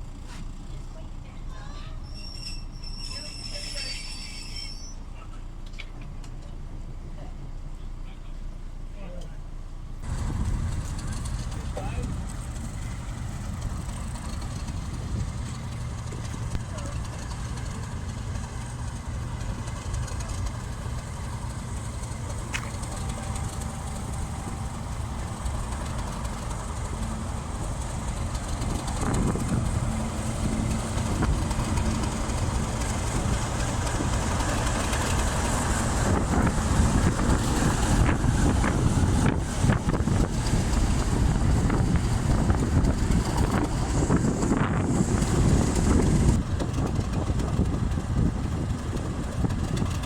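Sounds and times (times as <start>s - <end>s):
train rumbling: 0.0s - 8.9s, 9.6s - 50.0s.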